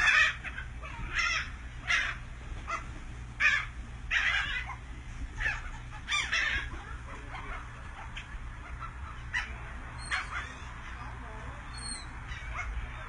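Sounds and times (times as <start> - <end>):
gulls calling harshly: 0.0 - 13.0
low steady hum: 0.0 - 13.0.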